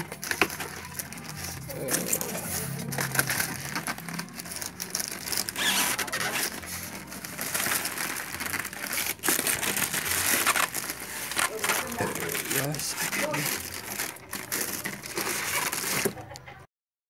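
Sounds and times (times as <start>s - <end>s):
plastic wrapping crinkling: 0.0s - 16.4s.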